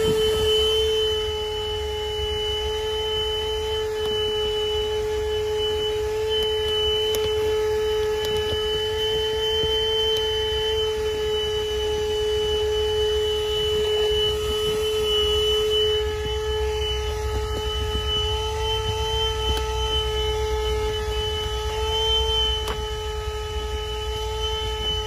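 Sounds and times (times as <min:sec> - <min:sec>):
handheld vacuum motor whine: 0:00.0 - 0:25.0.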